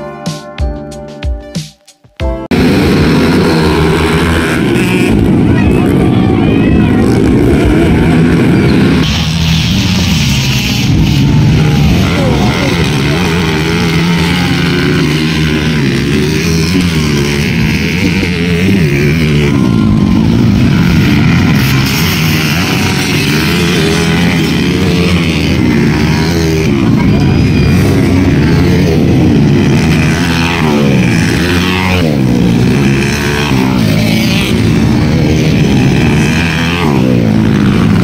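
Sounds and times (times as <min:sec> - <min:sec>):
dirt bike engines revving: 0:02.4 - 0:38.0.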